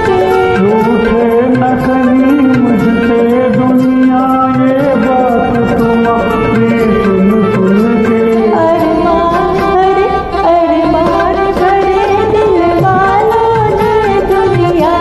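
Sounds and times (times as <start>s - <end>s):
karaoke backing track: 0.0s - 15.0s
person singing: 0.0s - 15.0s.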